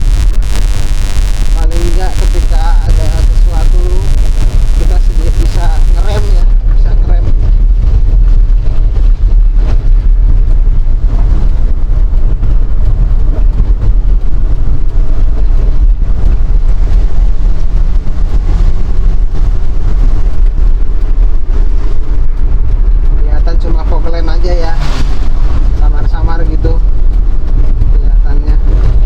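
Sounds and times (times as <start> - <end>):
engine and road noise: 0.0 - 29.0
wind buffeting microphone: 0.0 - 29.0.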